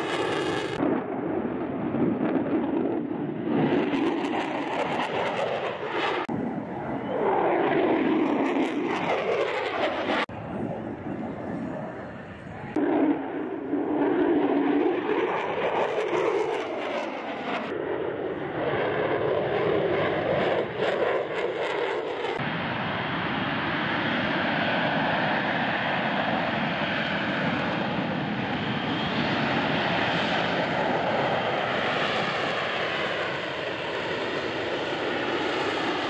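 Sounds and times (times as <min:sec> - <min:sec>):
jet passing with falling pitch: 0:00.0 - 0:36.0
steady jet noise hovering: 0:00.0 - 0:36.0.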